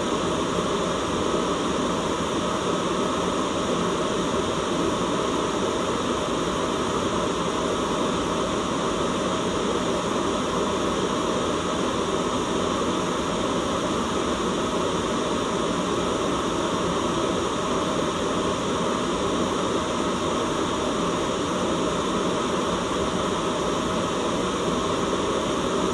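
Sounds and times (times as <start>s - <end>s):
steady white noise hiss: 0.0s - 25.9s.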